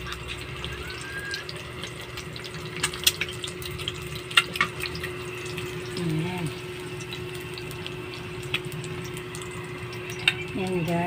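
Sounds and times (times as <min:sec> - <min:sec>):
eggs sizzling in oil: 0:00.0 - 0:11.0.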